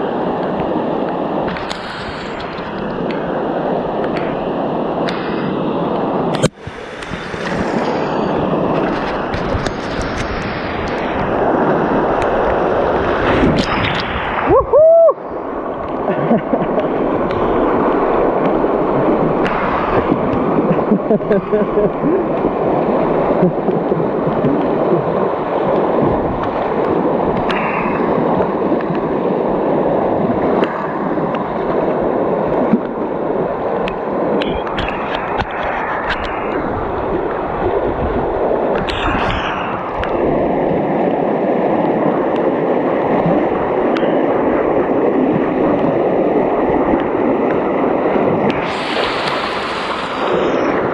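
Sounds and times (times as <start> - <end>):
river water rushing and splashing: 0.0 - 50.9.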